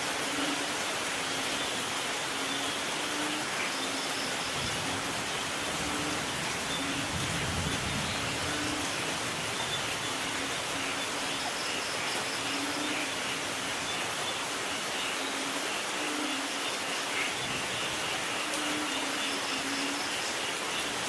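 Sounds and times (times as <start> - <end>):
steady rain hissing: 0.0 - 21.0.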